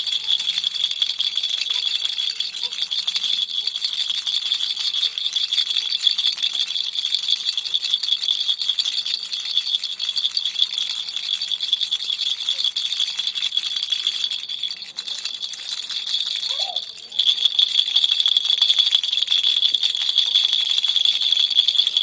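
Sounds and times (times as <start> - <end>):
baby's toy rattle shaken: 0.0 - 22.0.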